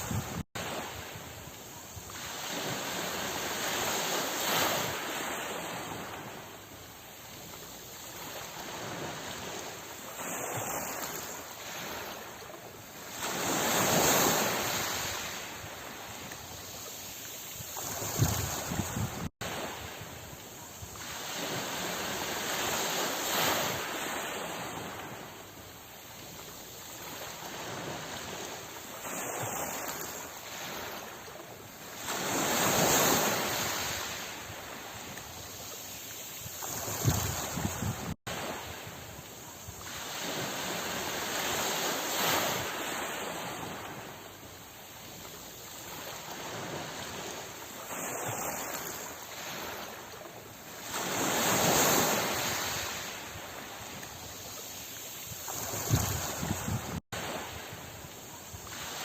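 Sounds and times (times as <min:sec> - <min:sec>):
sea waves breaking: 0:00.0 - 0:59.0.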